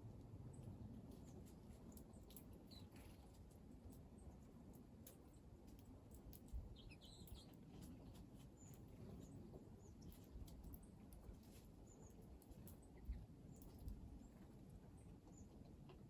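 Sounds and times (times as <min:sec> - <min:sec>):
low background hum: 0:00.0 - 0:16.0
small birds chirping: 0:00.5 - 0:15.8.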